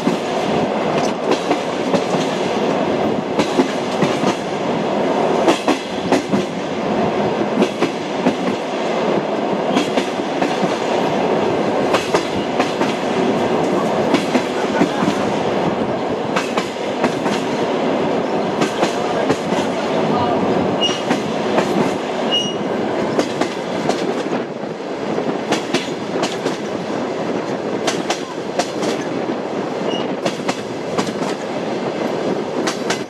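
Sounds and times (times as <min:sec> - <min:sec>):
train wheels clickety-clack: 0:00.0 - 0:20.2, 0:20.8 - 0:33.0
moving train rumble: 0:00.0 - 0:33.0.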